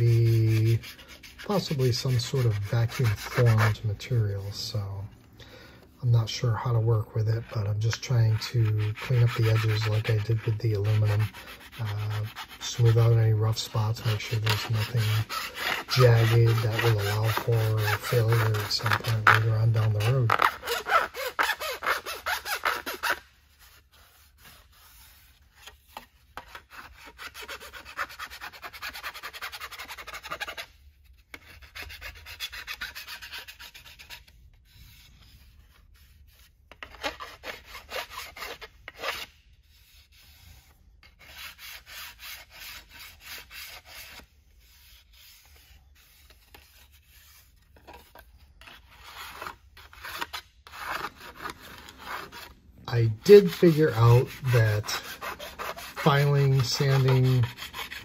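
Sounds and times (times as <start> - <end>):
hand file scraping plastic: 0.0 - 4.8, 6.7 - 58.0.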